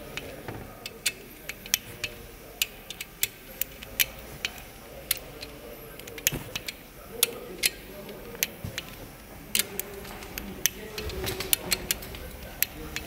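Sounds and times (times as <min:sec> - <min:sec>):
torque wrench clicking: 0:00.0 - 0:13.0.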